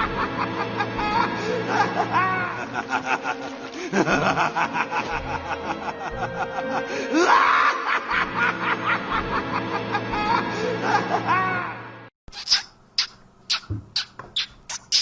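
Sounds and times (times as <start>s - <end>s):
background music: 0.0s - 12.1s.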